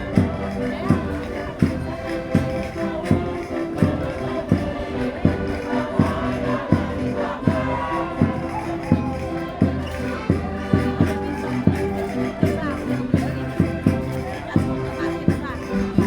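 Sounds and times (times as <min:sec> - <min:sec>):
concertinas playing folk dance tune: 0:00.0 - 0:16.0
thumping beat: 0:00.0 - 0:16.0.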